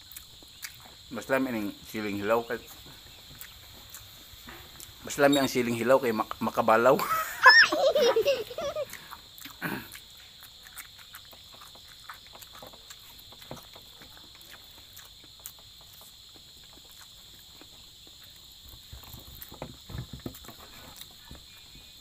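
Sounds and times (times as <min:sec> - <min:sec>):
wet chewing: 0:00.0 - 0:05.6, 0:08.4 - 0:22.0.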